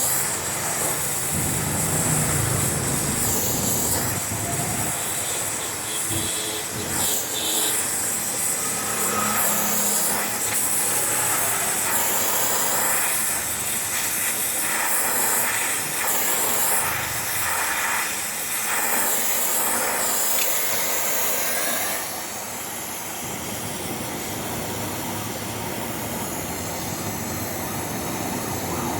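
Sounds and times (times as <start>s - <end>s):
welding arc hissing and crackling: 0.0s - 27.4s.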